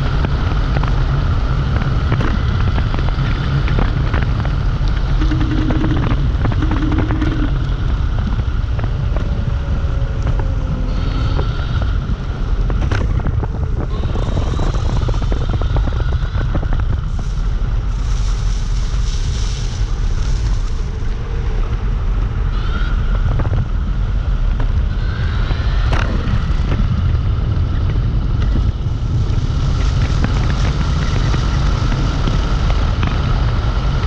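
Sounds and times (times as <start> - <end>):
tyre and road noise: 0.0 - 34.0
wind buffeting microphone: 0.0 - 34.0.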